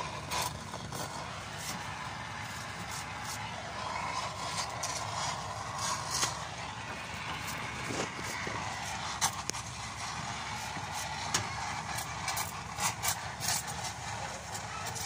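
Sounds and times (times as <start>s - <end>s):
welding arc crackling and hissing: 0.0s - 15.0s.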